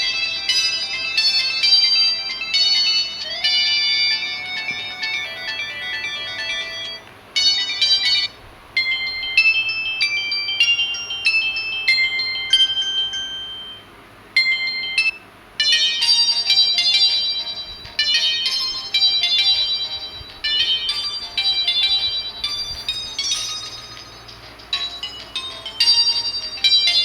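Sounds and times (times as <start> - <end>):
electronic phone ringtone melodies: 0.0 - 27.0.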